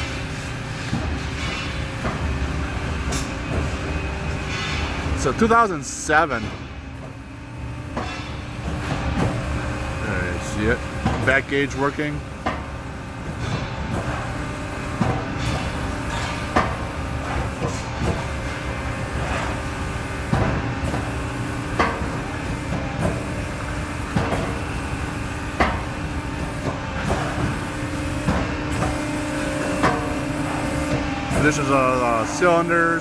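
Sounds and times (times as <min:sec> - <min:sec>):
hydraulic pump humming: 0:00.0 - 0:33.0.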